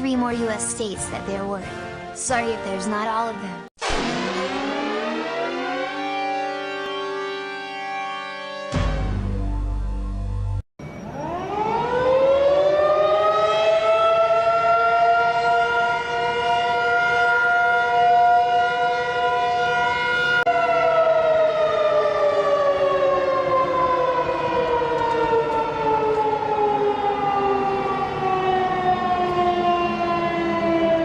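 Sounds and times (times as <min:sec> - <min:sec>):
two-tone siren alarm: 0:03.8 - 0:09.2, 0:10.8 - 0:31.0.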